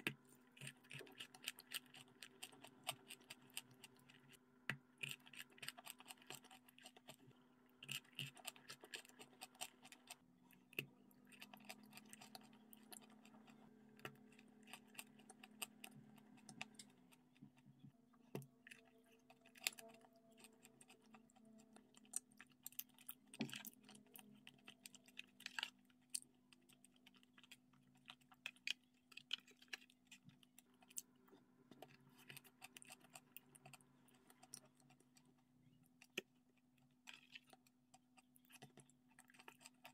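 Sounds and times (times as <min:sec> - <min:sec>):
chewing clicks and crackles: 0:00.0 - 0:17.7, 0:18.3 - 0:39.9
faint low hum: 0:00.0 - 0:39.9.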